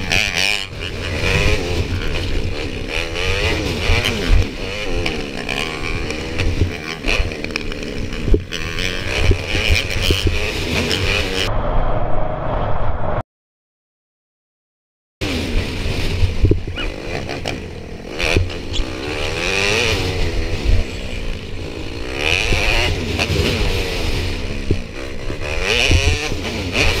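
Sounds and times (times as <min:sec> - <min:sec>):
dirt bike engine revving: 0:00.0 - 0:11.5, 0:15.2 - 0:27.0.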